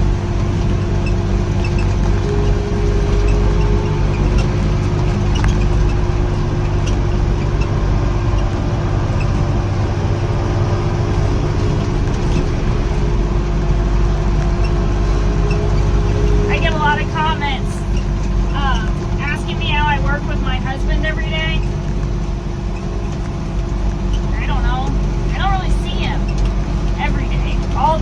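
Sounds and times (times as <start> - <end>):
steady whine: 0.0 - 28.0
tractor engine running: 0.0 - 28.0.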